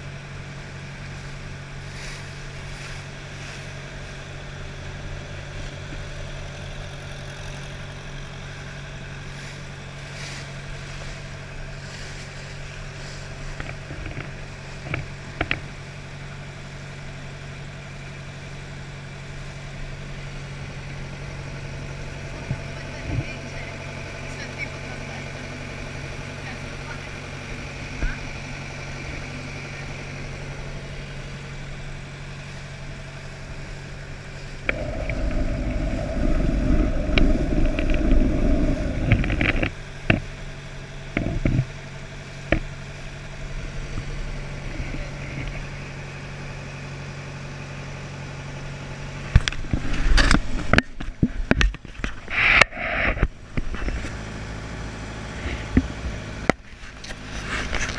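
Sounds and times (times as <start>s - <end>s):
engine humming: 0.0s - 57.9s.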